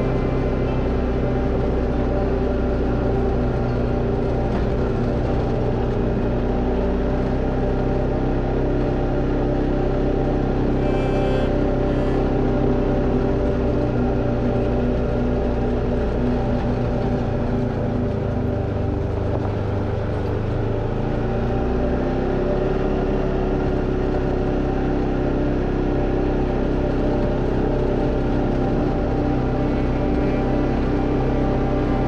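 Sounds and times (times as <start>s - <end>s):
off-road vehicle engine running: 0.0s - 32.0s.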